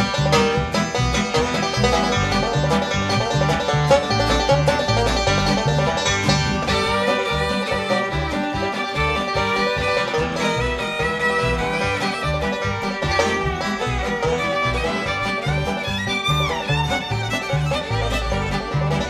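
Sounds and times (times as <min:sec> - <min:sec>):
banjo: 0:00.0 - 0:19.0
fiddle: 0:00.0 - 0:19.0
steady bass beat: 0:01.8 - 0:19.0.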